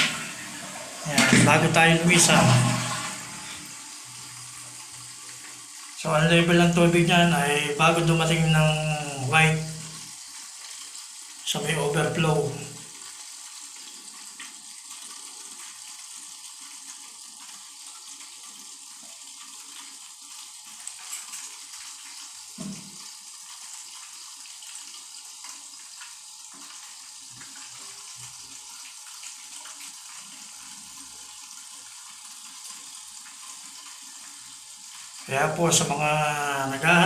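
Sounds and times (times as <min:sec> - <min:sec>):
toilet cistern refilling hiss: 0:00.0 - 0:37.0.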